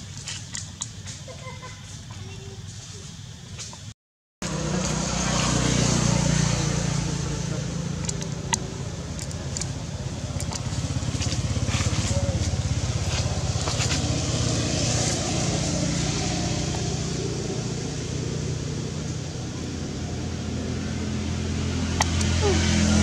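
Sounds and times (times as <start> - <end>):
engine running with pulsing hum: 4.4 - 23.0.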